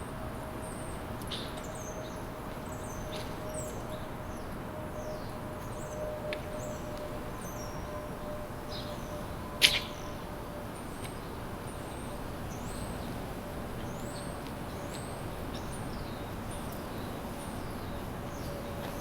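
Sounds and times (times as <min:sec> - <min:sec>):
city background hum: 0:00.0 - 0:19.0.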